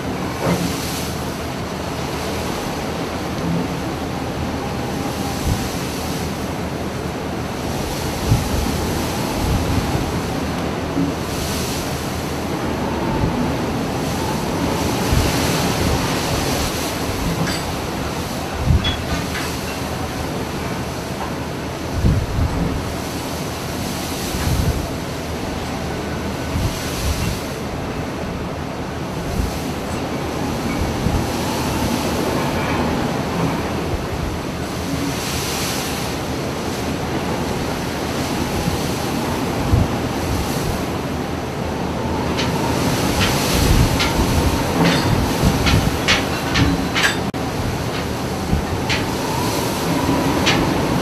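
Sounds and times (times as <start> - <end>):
ship rumble and rushing water: 0.0 - 51.0.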